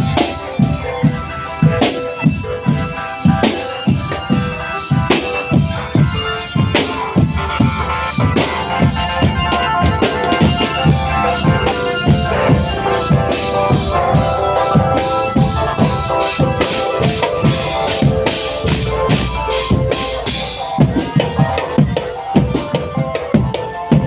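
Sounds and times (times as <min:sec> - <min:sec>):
bass drums and snare drums: 0:00.0 - 0:24.0
bell-lyre melody: 0:00.0 - 0:24.0.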